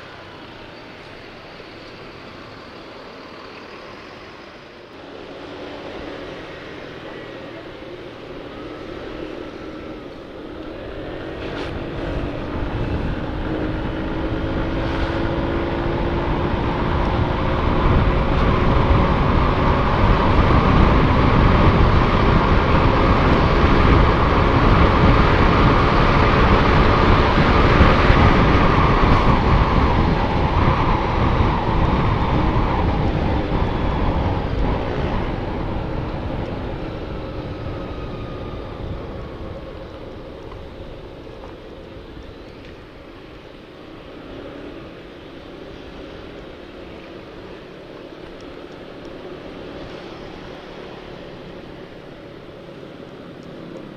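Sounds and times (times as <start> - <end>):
motorcycle engine accelerating: 0.0 - 53.9
wind rushing over microphone: 4.1 - 53.9.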